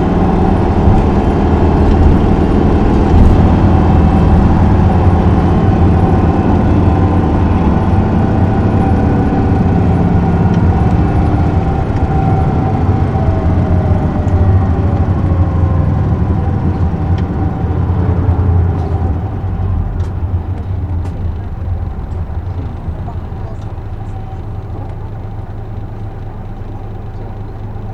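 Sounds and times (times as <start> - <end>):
bus engine drone: 0.0 - 27.9
road rumble: 0.0 - 27.9.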